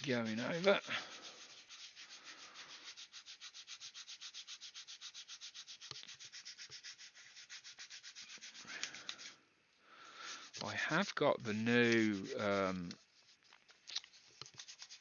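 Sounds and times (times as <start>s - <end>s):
hand sanding plastic: 0.0s - 9.4s, 10.0s - 15.0s.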